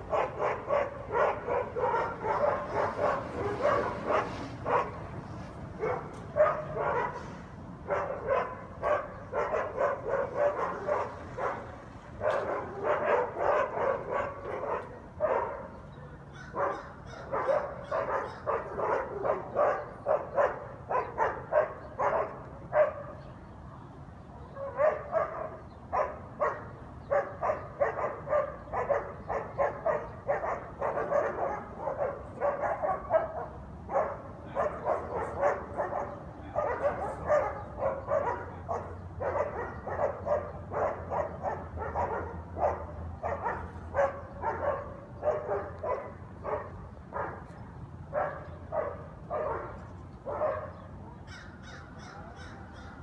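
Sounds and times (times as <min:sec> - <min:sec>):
dogs barking: 0:00.0 - 0:23.2, 0:24.4 - 0:53.0.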